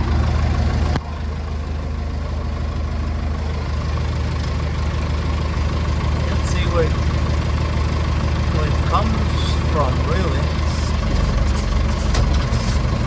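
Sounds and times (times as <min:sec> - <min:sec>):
backhoe engine idling: 0:00.0 - 0:13.0.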